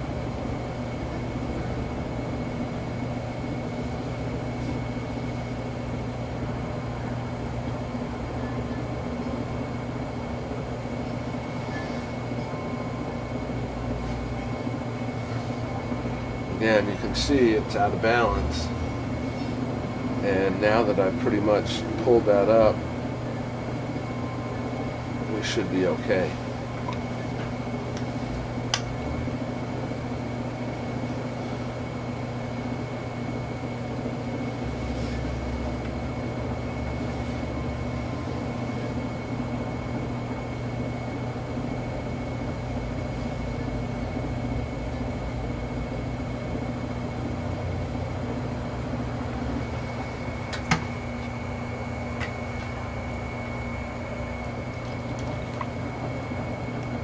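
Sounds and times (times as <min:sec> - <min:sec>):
potter's wheel motor humming: 0:00.0 - 0:57.0.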